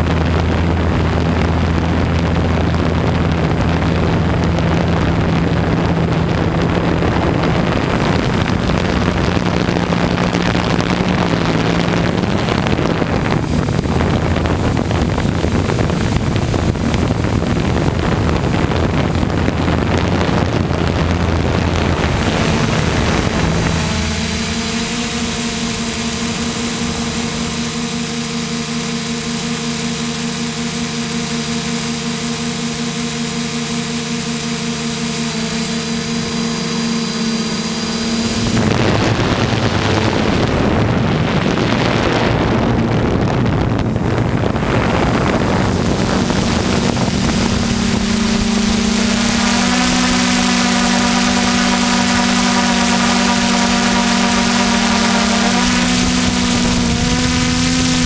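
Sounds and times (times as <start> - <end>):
drone motors and propellers: 0.0 - 58.0
wind rushing over microphone: 0.0 - 58.0.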